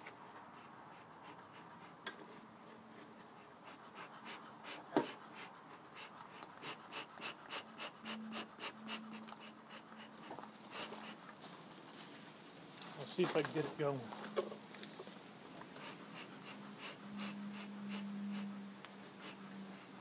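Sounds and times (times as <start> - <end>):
bellows pumping air puffs: 0.4 - 11.6, 12.9 - 20.0.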